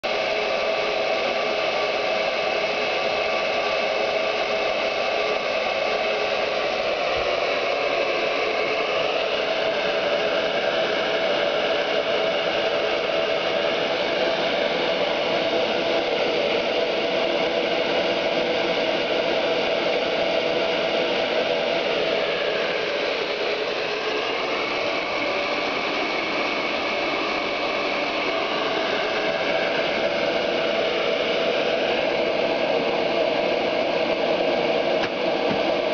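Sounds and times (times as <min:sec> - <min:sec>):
hair dryer running: 0:00.0 - 0:35.9.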